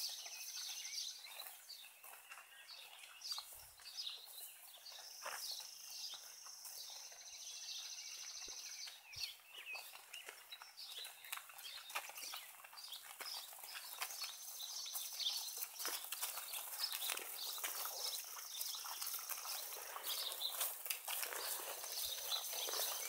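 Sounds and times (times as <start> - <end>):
birds chirping: 0.0 - 23.0
cattle hooves clopping on pavement: 0.0 - 23.0.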